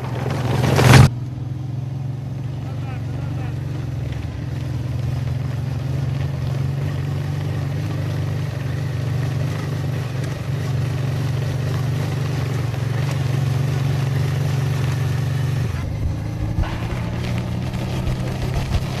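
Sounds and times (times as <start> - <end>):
engine droning steadily: 0.0 - 19.0.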